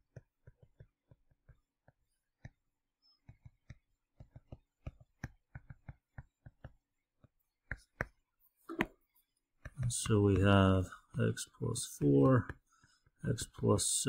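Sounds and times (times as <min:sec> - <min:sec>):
stylus tapping tablet screen: 0:00.0 - 0:11.4, 0:12.0 - 0:13.7.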